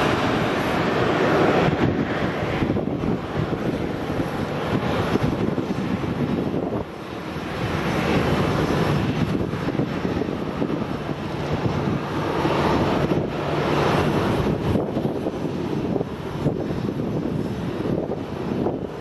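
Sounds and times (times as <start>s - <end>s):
helicopter rotor and turbine noise: 0.0s - 19.0s.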